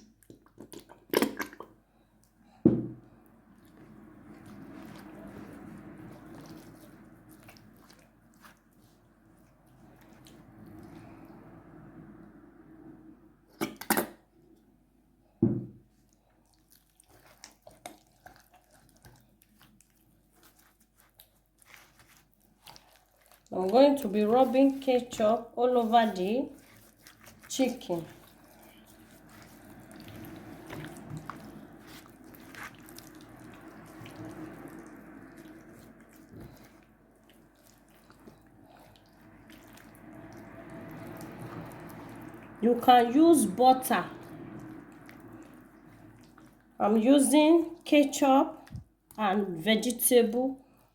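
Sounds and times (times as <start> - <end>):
wet squishing and patting: 0.0 - 11.4, 15.8 - 50.9
wet squelches: 0.0 - 12.4, 15.8 - 50.9.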